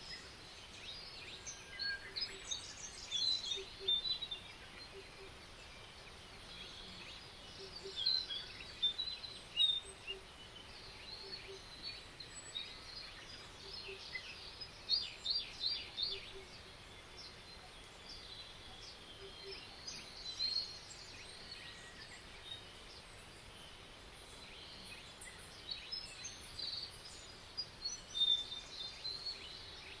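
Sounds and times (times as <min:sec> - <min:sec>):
faint background hiss: 0:00.0 - 0:30.0
songbirds chirping: 0:00.0 - 0:30.0.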